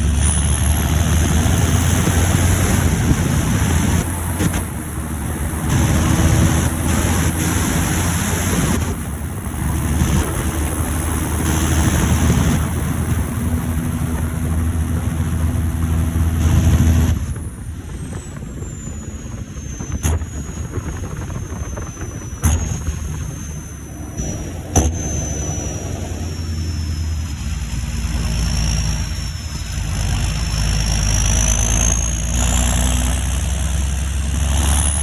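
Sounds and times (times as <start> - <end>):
high turbo whistle: 0.0 - 35.0
tractor diesel engine running: 0.0 - 35.0.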